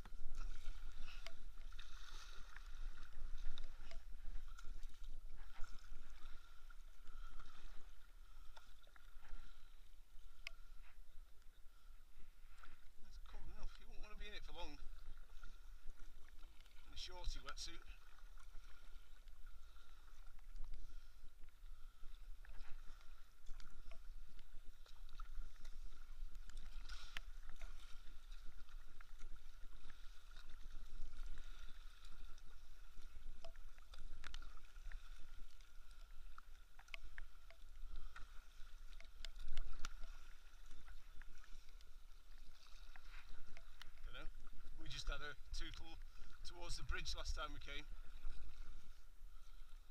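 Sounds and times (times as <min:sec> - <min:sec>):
paddle strokes splashing in water: 0:00.0 - 0:49.9
water moving along hull: 0:00.0 - 0:49.9.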